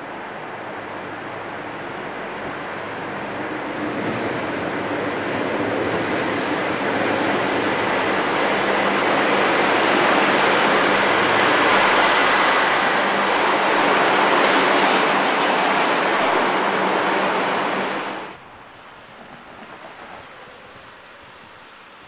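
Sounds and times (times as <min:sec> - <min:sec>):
passenger train passing: 0:00.0 - 0:22.0.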